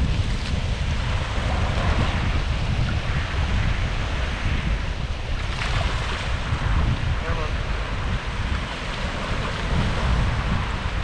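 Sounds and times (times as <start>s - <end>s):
small waves washing: 0.0s - 11.0s
wind buffeting microphone: 0.0s - 11.0s.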